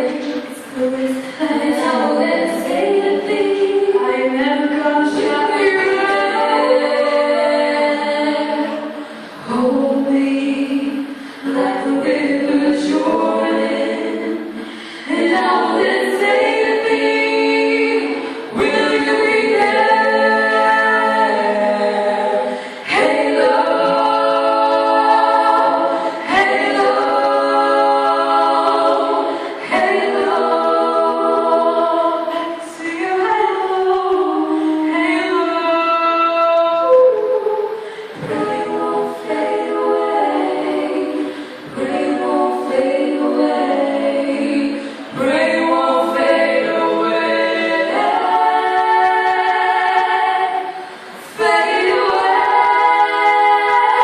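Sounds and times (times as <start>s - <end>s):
vocal group singing a cappella: 0.0s - 54.0s.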